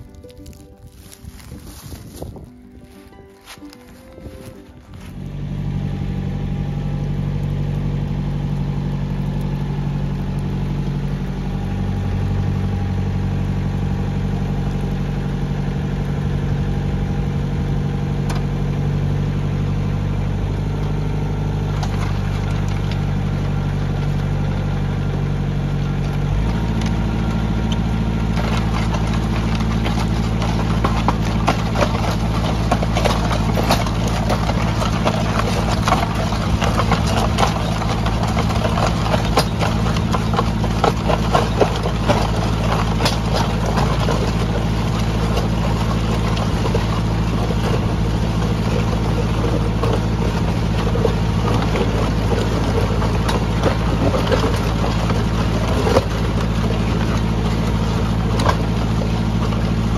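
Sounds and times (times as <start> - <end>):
auger grinding into rocky soil: 0.0 - 59.9
tractor engine running: 0.0 - 59.9.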